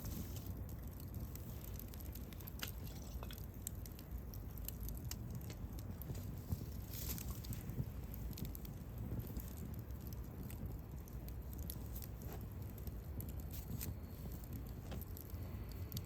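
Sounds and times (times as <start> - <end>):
campfire crackling: 0.0 - 16.0
fire popping and snapping: 0.0 - 16.0
low rumble of flames: 0.0 - 16.0.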